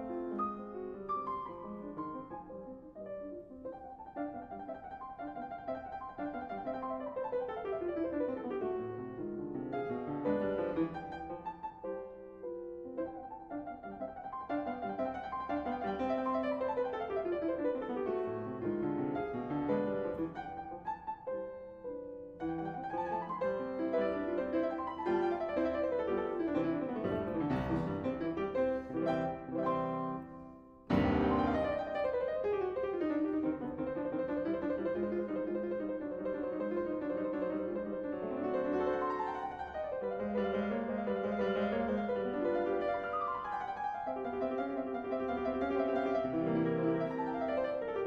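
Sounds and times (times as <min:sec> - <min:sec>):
classical piano runs: 0:00.0 - 0:48.0.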